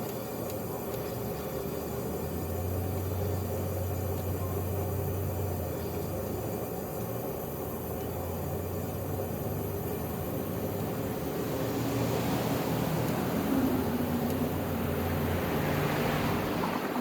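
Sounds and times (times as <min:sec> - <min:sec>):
heat pump hissing: 0:00.0 - 0:17.0
heat pump low hum: 0:00.0 - 0:17.0.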